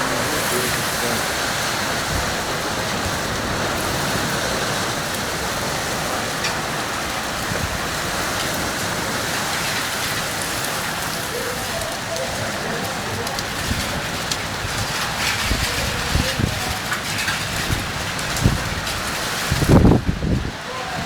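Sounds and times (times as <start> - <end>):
drops or hail striking: 0.0 - 21.0
heavy rain pouring: 0.0 - 21.0.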